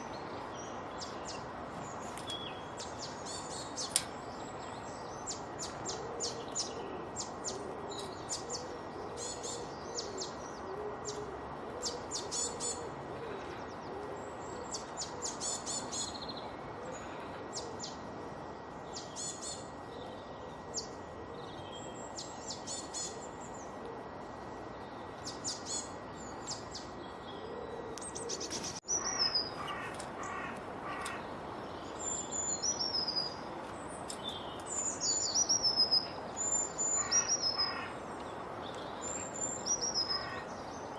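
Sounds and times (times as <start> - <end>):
outdoor background hiss: 0.0 - 40.9
songbirds singing and chirping: 0.0 - 40.9.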